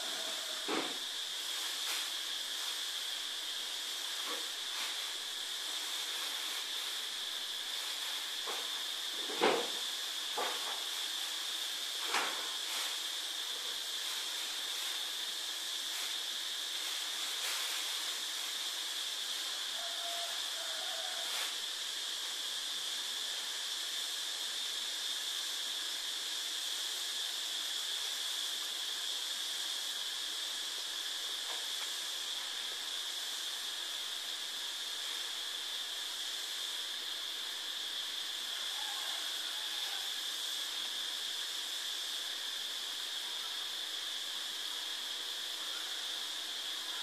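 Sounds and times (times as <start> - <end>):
faint high-pitched whine: 0.0 - 47.0
steady background hiss: 0.0 - 47.0.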